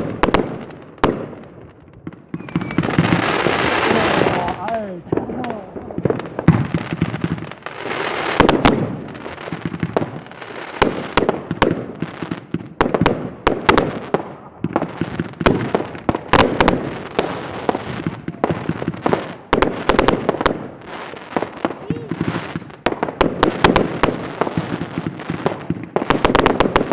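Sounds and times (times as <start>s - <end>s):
fireworks bangs and crackling: 0.0s - 26.9s.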